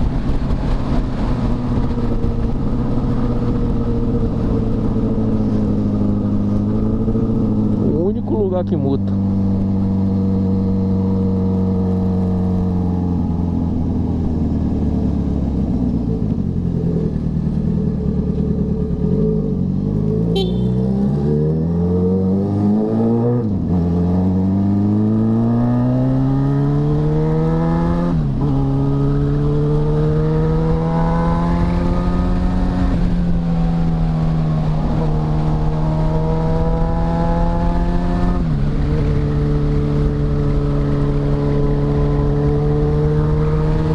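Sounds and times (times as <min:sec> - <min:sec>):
motorcycle engine shifting gears: 0:00.0 - 0:43.9.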